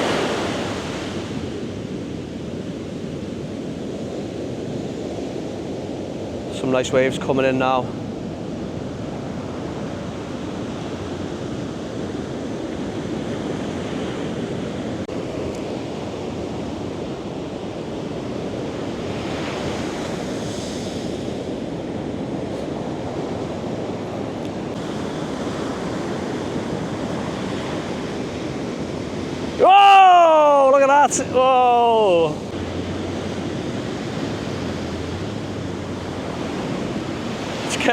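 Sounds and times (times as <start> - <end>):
waves breaking on shore: 0.0 - 37.9.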